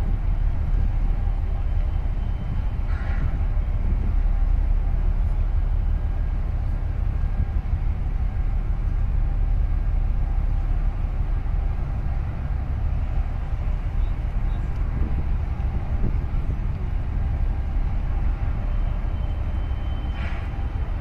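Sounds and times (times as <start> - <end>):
ship diesel engine rumble: 0.0 - 21.0.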